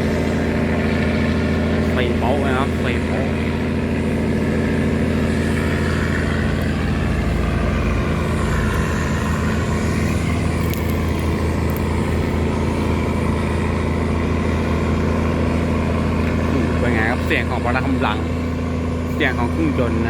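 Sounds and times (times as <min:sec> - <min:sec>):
tugboat engine running: 0:00.0 - 0:20.0.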